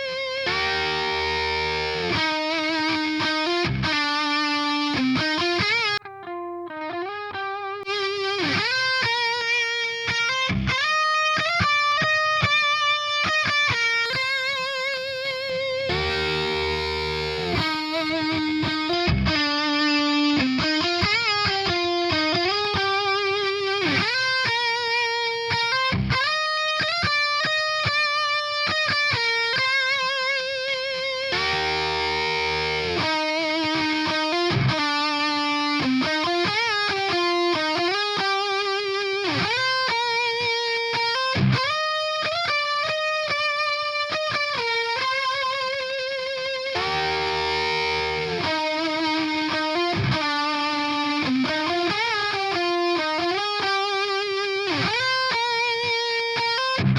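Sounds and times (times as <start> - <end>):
distorted electric guitar lead: 0.0 - 56.9.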